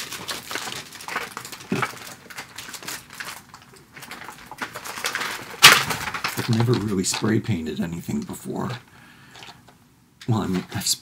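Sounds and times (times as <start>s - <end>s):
plastic packaging rustling: 0.0s - 10.9s.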